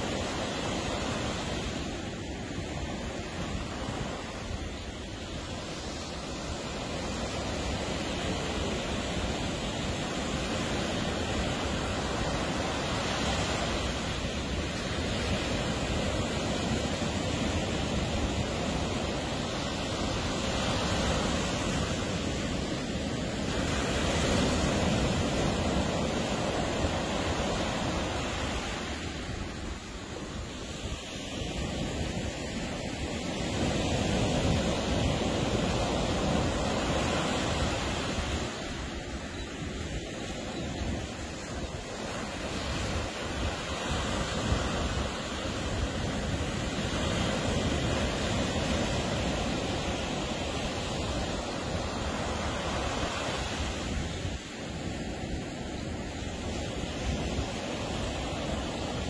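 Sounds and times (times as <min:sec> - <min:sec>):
ocean surf breaking on beach: 0:00.0 - 0:59.0
wind on microphone: 0:00.0 - 0:59.0.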